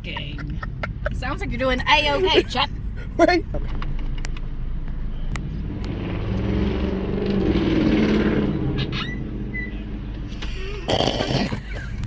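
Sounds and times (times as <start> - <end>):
car engine: 0.0 - 12.0
road noise inside car: 0.0 - 12.0.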